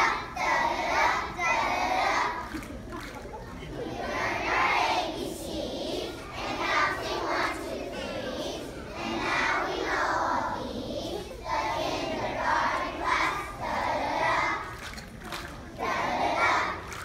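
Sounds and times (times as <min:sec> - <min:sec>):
children singing in unison: 0:00.0 - 0:02.7, 0:03.6 - 0:15.0, 0:15.6 - 0:17.0.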